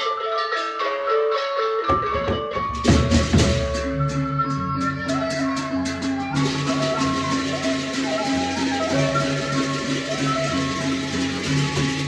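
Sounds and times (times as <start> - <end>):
bass and drums: 1.9 - 12.0
mallet instrument melody: 1.9 - 12.0.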